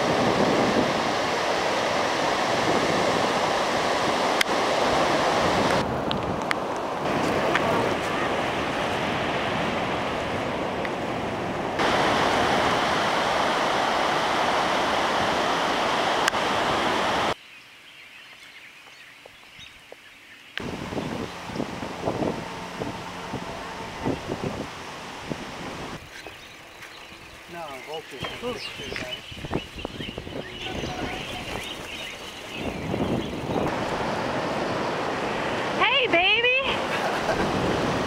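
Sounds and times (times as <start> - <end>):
ocean surf washing on beach: 0.0 - 17.4, 20.6 - 38.0
wind on microphone: 0.0 - 17.4, 20.6 - 26.5, 28.2 - 35.8, 36.7 - 38.0.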